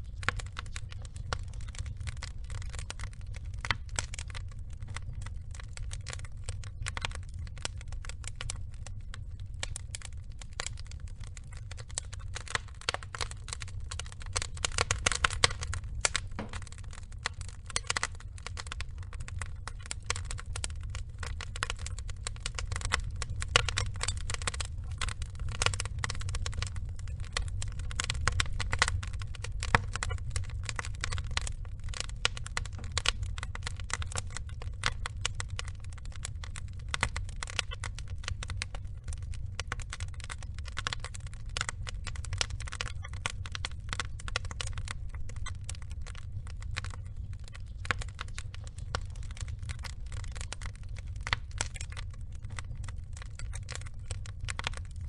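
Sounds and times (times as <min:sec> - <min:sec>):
logs crackling and popping: 0:00.0 - 0:55.0
low rumble of flame: 0:00.0 - 0:55.0.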